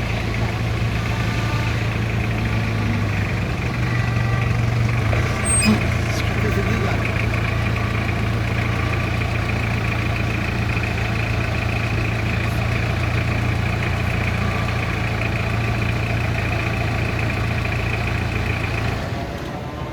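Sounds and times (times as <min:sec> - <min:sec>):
jeep engine idling: 0:00.0 - 0:19.9.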